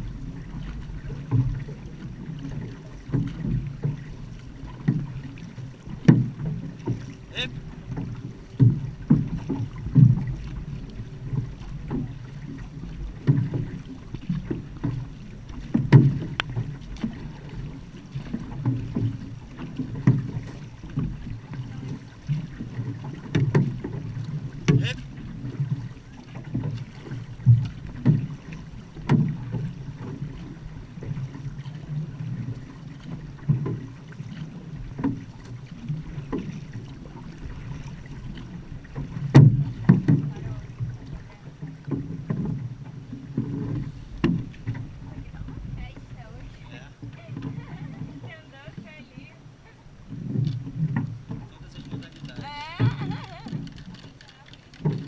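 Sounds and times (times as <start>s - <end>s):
paddle strokes splashing: 0.0s - 55.0s
water rushing along hull: 0.0s - 55.0s.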